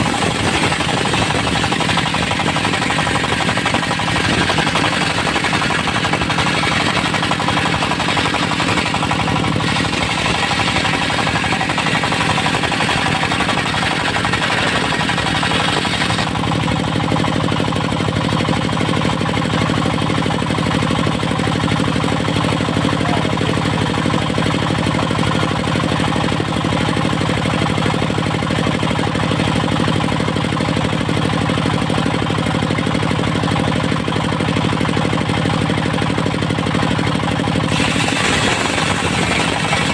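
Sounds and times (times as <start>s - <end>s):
sawmill blade sawing log: 0.0s - 39.9s
sawmill engine running: 0.0s - 39.9s.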